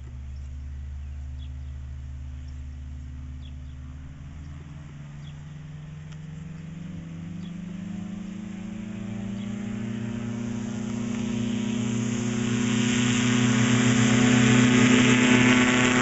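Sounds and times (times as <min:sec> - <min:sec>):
ultralight engine and propeller: 0:00.0 - 0:16.0.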